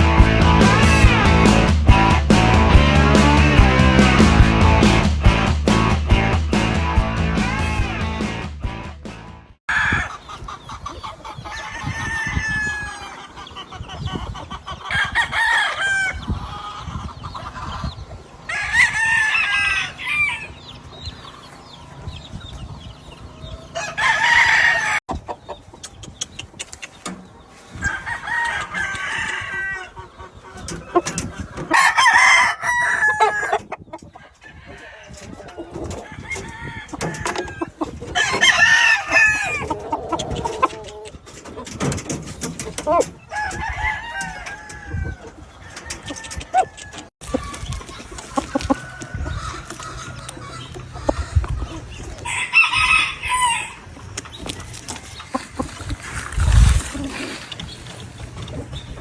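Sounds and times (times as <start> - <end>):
roosters crowing: 6.9 - 8.4, 9.7 - 22.1, 23.0 - 25.1, 27.5 - 59.0
chickens clucking: 9.7 - 59.0.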